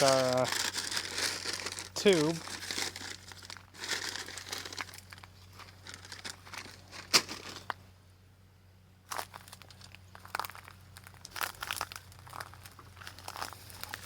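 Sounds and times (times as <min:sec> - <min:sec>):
rustling and crinkling of parts: 0:00.0 - 0:07.8, 0:09.1 - 0:14.0.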